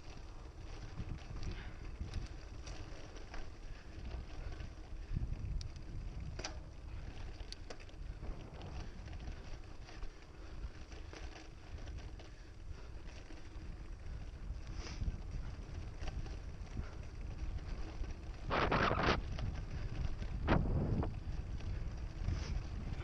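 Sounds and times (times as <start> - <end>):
bike clicks and rattles: 0.0 - 23.0
bike tyre rumble: 0.0 - 23.0
wind buffeting microphone: 0.1 - 23.0.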